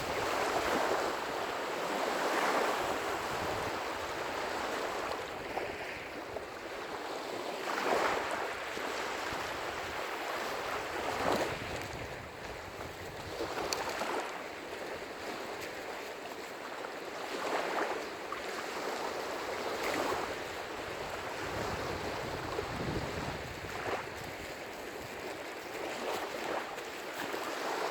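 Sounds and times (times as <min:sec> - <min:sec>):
waves washing on shore: 0:00.0 - 0:27.9.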